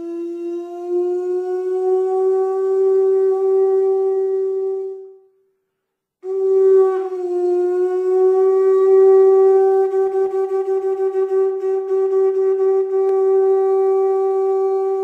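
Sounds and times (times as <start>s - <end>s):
wind instrument long notes: 0.0s - 5.4s, 6.2s - 15.0s.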